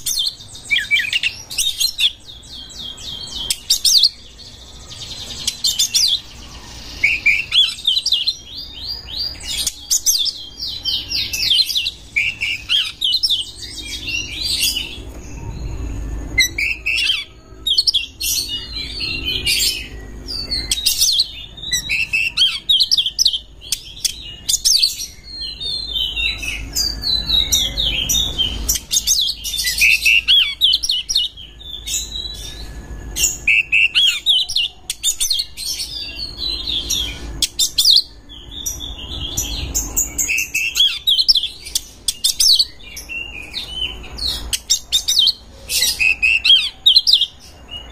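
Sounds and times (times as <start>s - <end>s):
bird singing chirps and trills: 0.0s - 47.9s.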